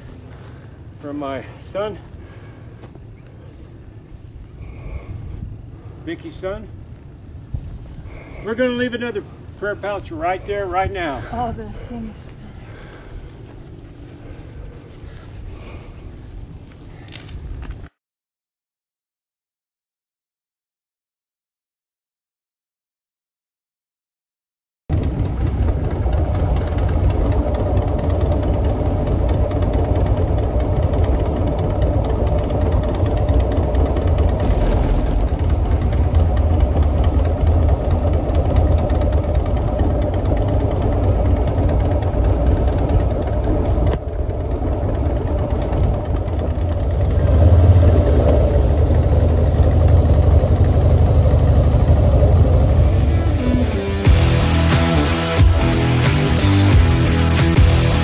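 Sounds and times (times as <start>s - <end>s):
motorcycle engine running: 0.0s - 17.2s, 24.9s - 58.0s.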